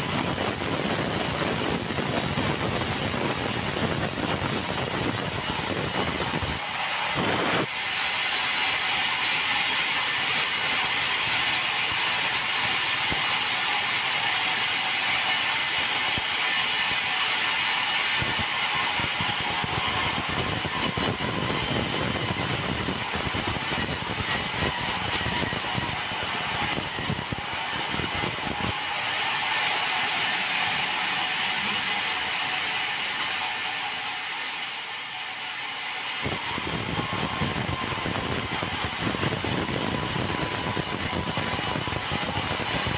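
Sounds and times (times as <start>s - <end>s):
band sawmill running: 0.0s - 42.9s.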